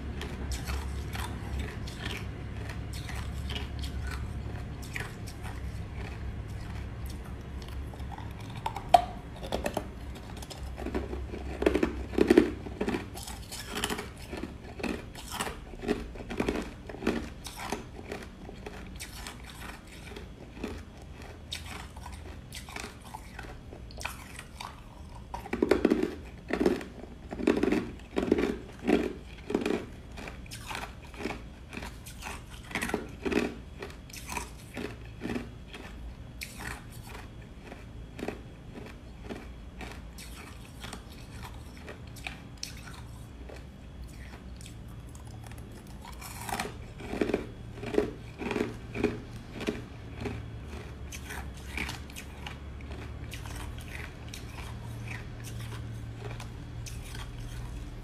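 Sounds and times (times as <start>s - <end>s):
chewing crushed ice: 0.0s - 58.0s.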